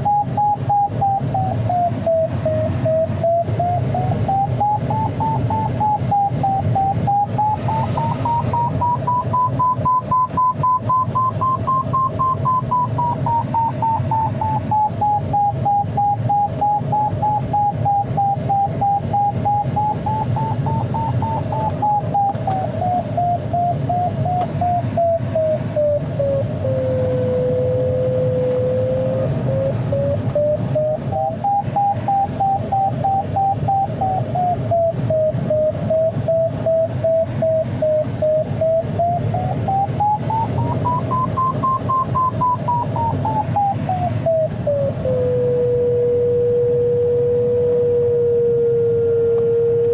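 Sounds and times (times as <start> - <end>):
variometer electronic whistle: 0.0 - 49.9
rush of air past cockpit: 0.3 - 49.9.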